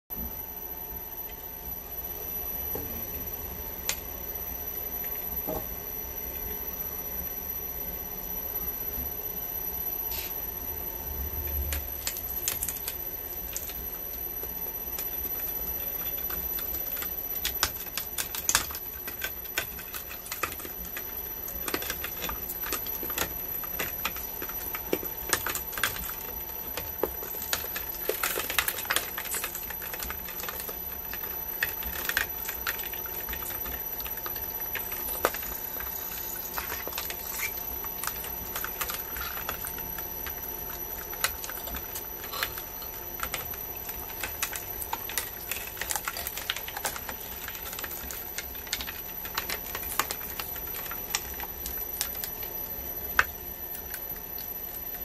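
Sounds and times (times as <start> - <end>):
shredder motor hum and whine: 0.1 - 55.0.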